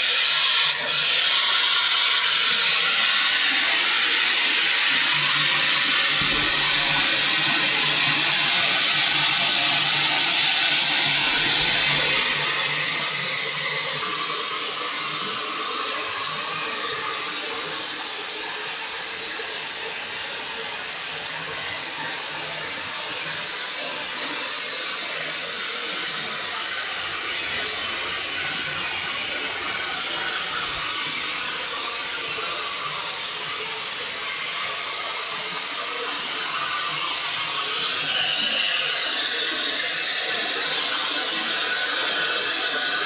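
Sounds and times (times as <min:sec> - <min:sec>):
water rushing through pipes: 0:00.0 - 0:43.0.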